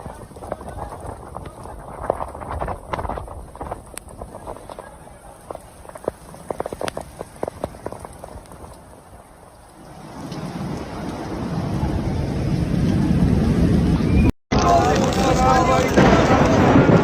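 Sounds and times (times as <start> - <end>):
raindrops tapping a surface: 0.0 - 13.9, 14.6 - 17.0
heavy rain downpour: 0.0 - 17.0.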